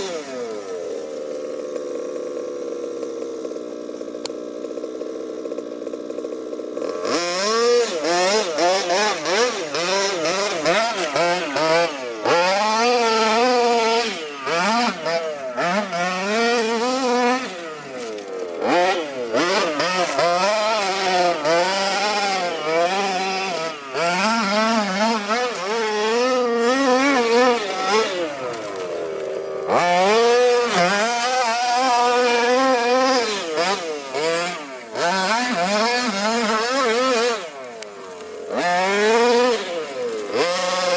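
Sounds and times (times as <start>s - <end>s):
two-stroke engine revving: 0.0s - 40.9s.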